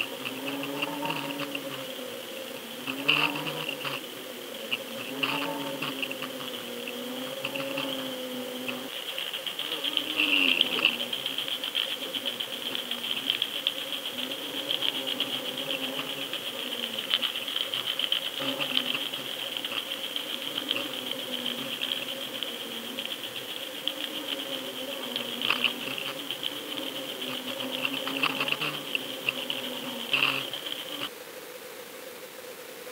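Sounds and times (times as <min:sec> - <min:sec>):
underwater crackling and clicking: 0:00.0 - 0:02.0, 0:02.8 - 0:31.1
steady high hiss: 0:00.0 - 0:32.9.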